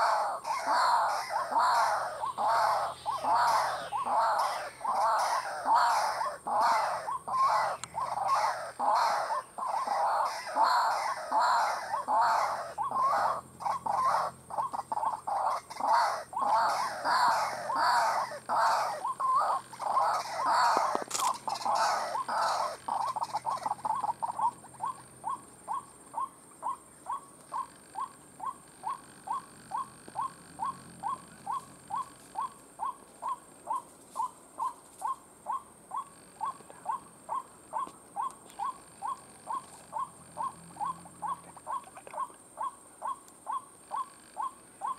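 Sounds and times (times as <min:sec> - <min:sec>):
waterhen calling: 0:00.0 - 0:44.9.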